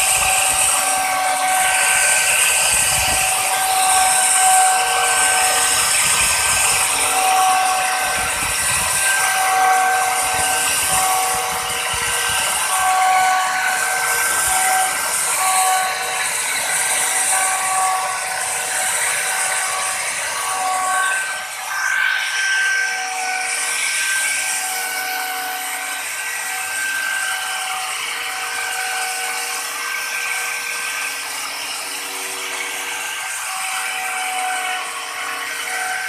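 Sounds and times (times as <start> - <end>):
router bit cutting wood hiss: 0.0 - 36.0
router motor whine: 0.0 - 36.0.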